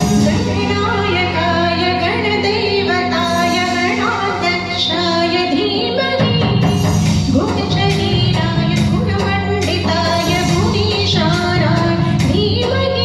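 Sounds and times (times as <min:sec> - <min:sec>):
instrumental accompaniment: 0:00.0 - 0:13.0
woman singing: 0:00.0 - 0:13.0.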